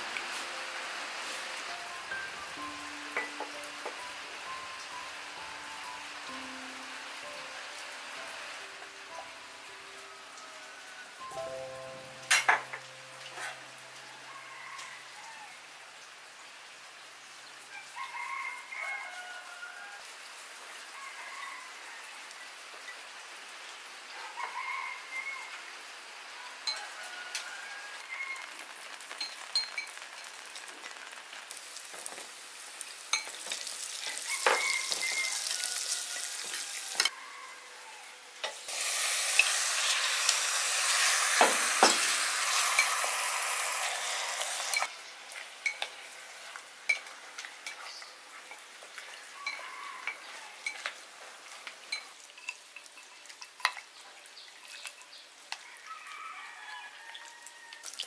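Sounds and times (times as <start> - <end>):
hot oil sizzling in a pot: 0.0 - 37.2, 38.3 - 58.0.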